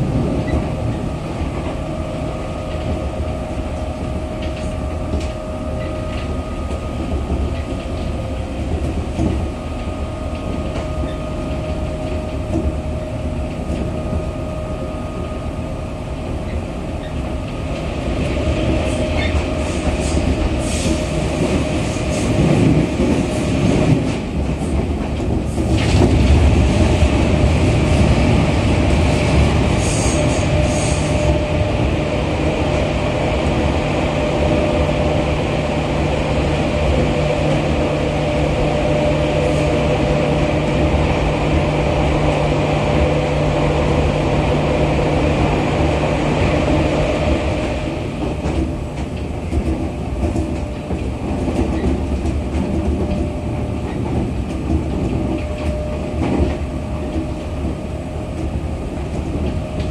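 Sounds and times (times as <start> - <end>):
train running rumble and hum: 0.0 - 59.9.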